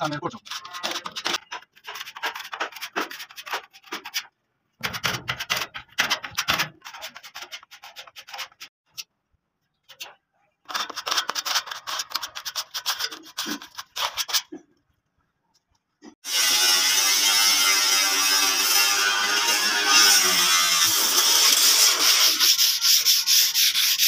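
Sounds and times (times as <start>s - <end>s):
sandpaper scratching on metal panel: 0.3s - 8.7s, 10.7s - 14.5s, 16.4s - 24.0s.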